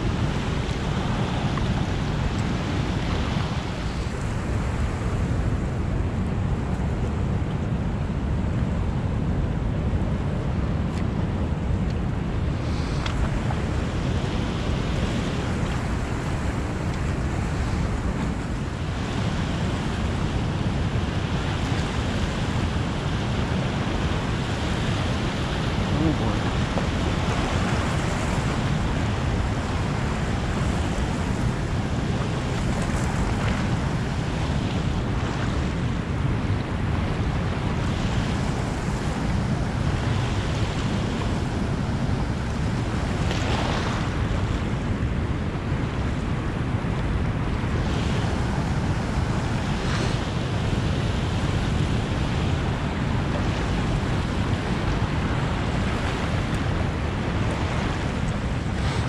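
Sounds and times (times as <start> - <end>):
turbulent water rushing: 0.0 - 59.0
wind on microphone: 0.0 - 59.0.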